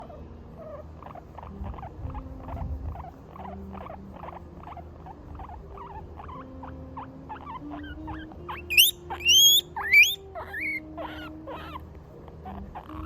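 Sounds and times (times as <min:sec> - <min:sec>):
guinea pig squeaking: 0:00.0 - 0:13.0.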